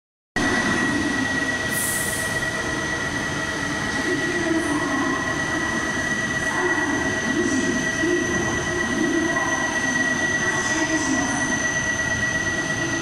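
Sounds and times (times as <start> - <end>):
train equipment high whine: 0.4 - 13.0.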